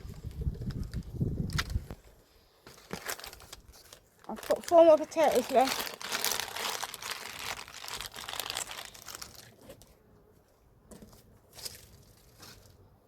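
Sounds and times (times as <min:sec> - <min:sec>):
hands rustling crinkly material: 0:00.0 - 0:13.0.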